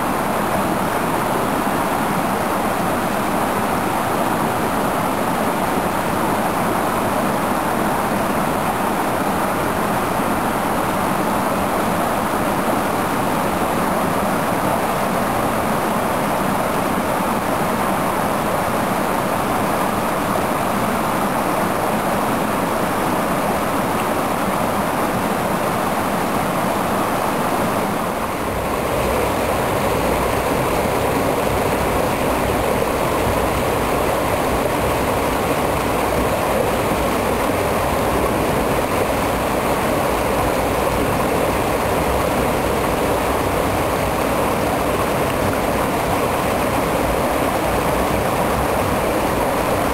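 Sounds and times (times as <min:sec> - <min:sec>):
stream water rushing: 0:00.0 - 0:49.9.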